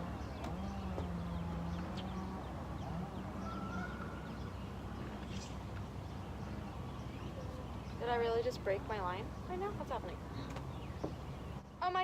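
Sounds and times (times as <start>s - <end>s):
faint bird calls: 0.0s - 11.8s.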